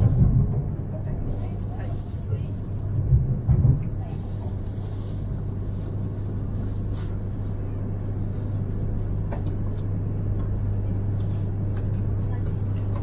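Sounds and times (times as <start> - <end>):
train cabin rumble and hum: 0.0 - 13.0.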